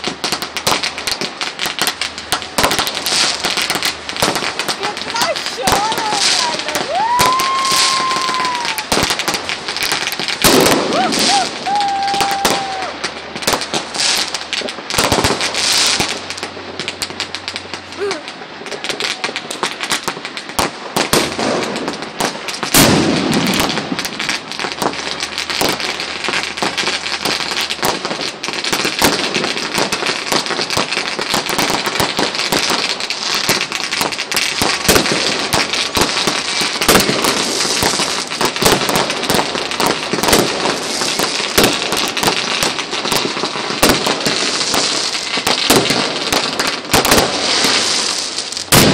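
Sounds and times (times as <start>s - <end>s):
fireworks crackling: 0.0s - 48.9s
loud firework bang: 2.4s - 14.3s, 14.9s - 17.1s, 19.4s - 32.9s, 33.5s - 48.9s.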